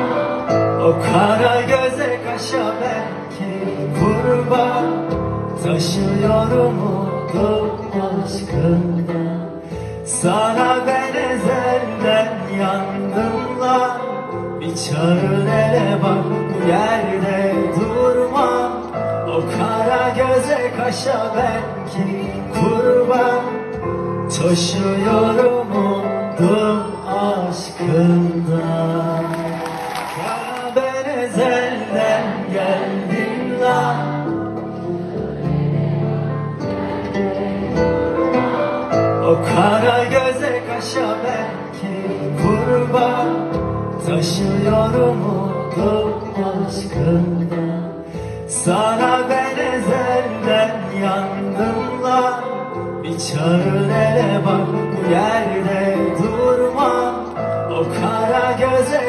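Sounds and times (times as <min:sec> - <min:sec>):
man singing: 0:00.0 - 0:35.1, 0:37.2 - 0:59.0
live pop band playing: 0:00.0 - 0:59.0.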